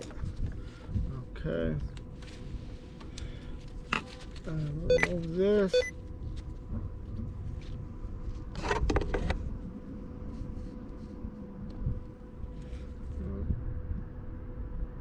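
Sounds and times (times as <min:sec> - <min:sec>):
faint steady hum: 0:00.0 - 0:15.0
low background rumble: 0:00.0 - 0:15.0.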